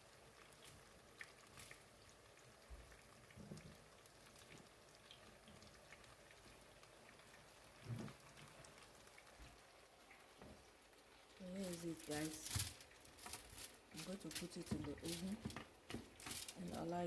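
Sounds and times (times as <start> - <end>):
oil sizzling with pops: 0.0 - 17.0.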